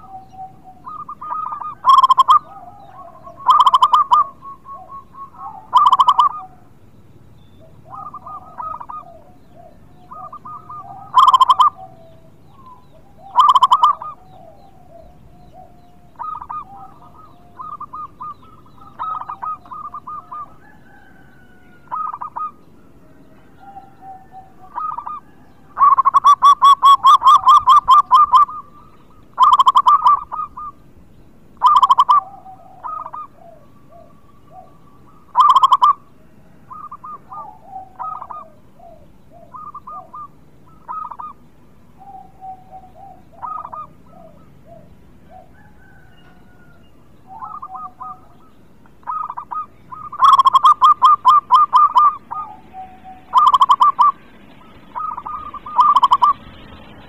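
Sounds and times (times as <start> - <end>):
dove cooing: 0.0 - 6.8, 7.4 - 31.0, 31.6 - 57.0.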